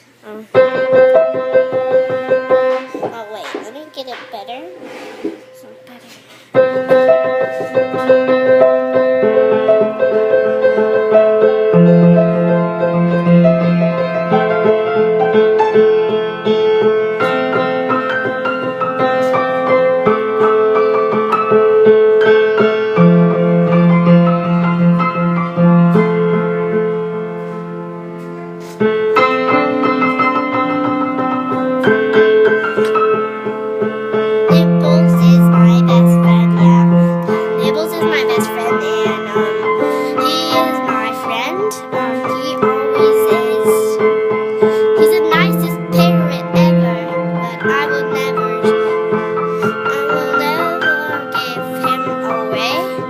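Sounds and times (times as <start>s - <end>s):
keyboard piano tune: 0.0s - 53.0s.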